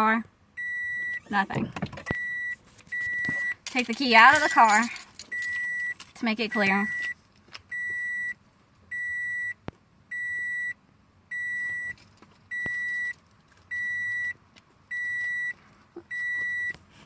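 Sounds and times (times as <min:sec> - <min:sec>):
car warning buzzer beeping: 0:00.6 - 0:03.6, 0:05.4 - 0:16.8.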